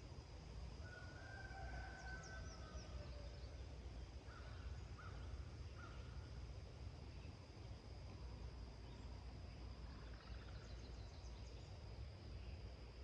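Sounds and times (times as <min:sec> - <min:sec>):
steady high insect-like tone: 0:00.0 - 0:13.0.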